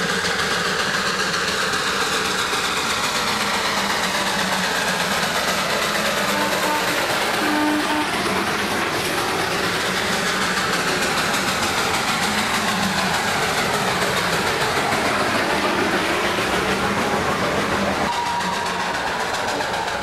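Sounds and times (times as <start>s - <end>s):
steam locomotive exhaust beats: 0.0s - 20.0s.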